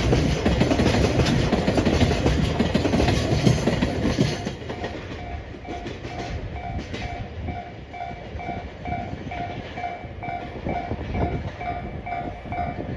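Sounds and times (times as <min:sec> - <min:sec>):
freight train rolling on rails: 0:00.0 - 0:12.9.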